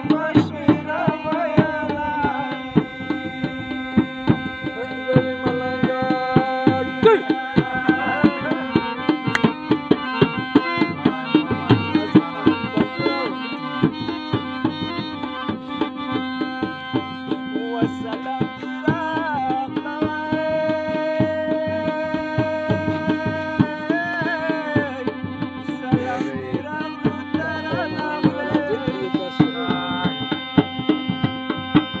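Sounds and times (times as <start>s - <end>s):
hand drum beating: 0.0s - 32.0s
harmonium playing: 0.0s - 32.0s.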